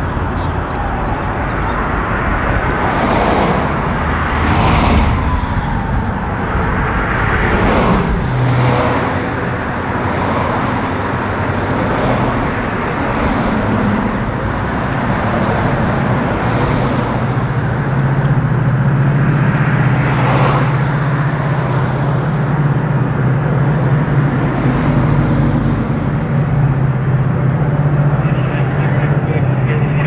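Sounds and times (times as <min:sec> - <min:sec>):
low engine drone: 0:00.0 - 0:30.0
train rumbling past: 0:00.0 - 0:30.0.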